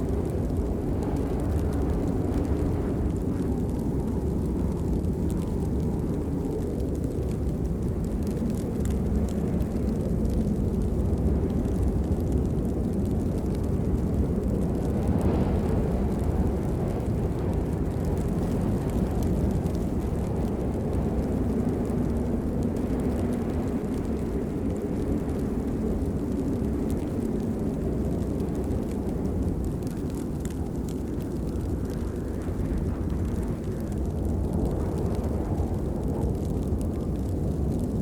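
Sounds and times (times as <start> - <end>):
steady rainfall: 0.0 - 38.0.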